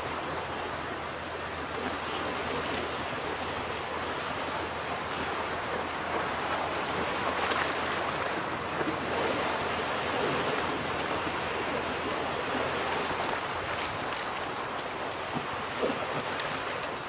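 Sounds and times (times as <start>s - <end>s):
waves washing onto beach: 0.0s - 17.0s.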